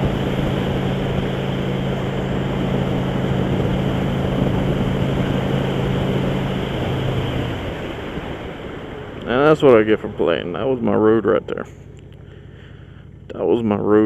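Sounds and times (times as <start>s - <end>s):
wind noise: 0.0s - 11.6s
motorcycle engine running: 0.0s - 14.0s.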